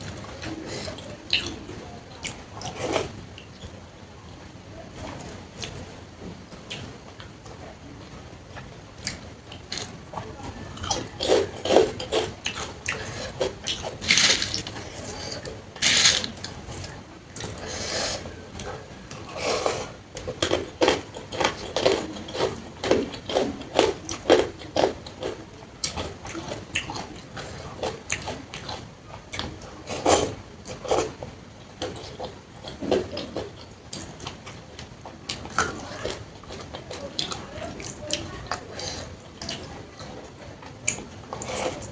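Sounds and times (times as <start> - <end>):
chewing and lip-smacking: 0.1 - 3.7, 8.5 - 41.9.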